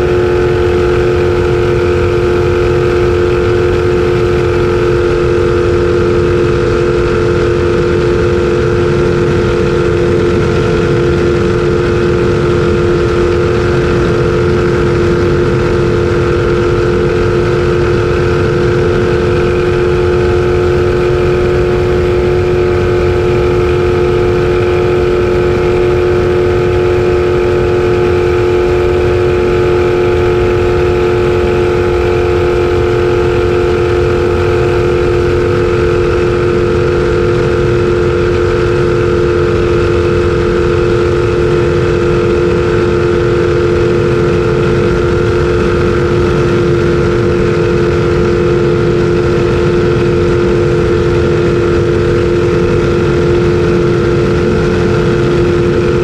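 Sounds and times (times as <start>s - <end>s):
boat engine running hard: 0.0s - 56.0s.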